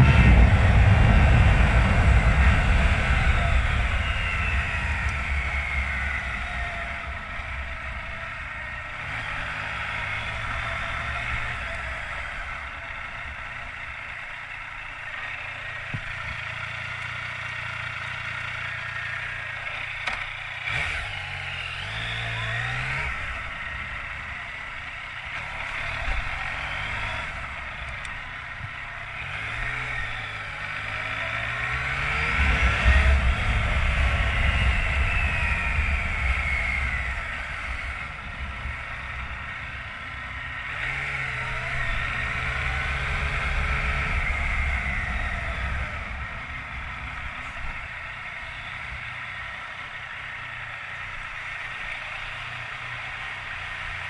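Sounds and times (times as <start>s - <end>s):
motorcycle engine accelerating: 0.0s - 54.0s
road and wind noise: 0.0s - 54.0s.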